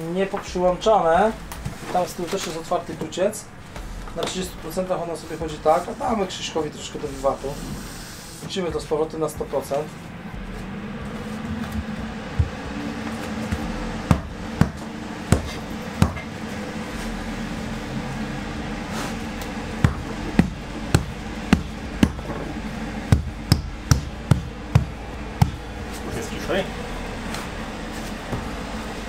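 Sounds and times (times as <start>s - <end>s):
ventilation unit fan hum: 0.0s - 29.0s.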